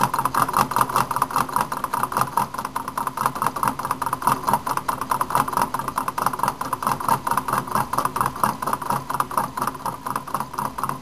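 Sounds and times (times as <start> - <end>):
stirling engine clicking and rattling: 0.0 - 11.0.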